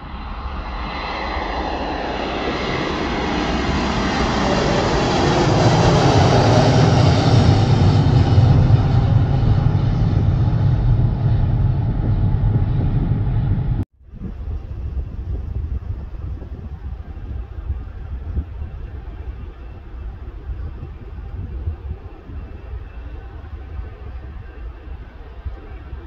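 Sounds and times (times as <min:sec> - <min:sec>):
deep rumble: 0:00.0 - 0:26.0
jet airliner taking off: 0:00.0 - 0:26.0.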